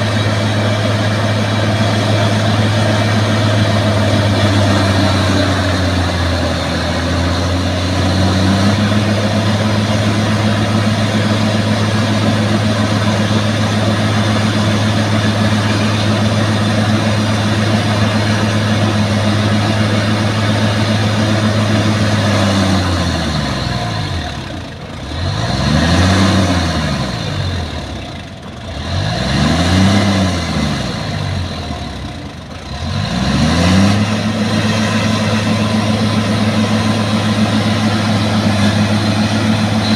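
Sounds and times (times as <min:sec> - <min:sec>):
bulldozer diesel engine revving: 0:00.0 - 0:39.9.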